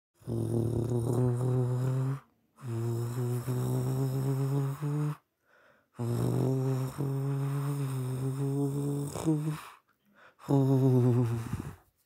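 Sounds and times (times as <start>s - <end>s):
person humming engine noise: 0.2s - 5.2s, 6.0s - 9.8s, 10.4s - 11.8s.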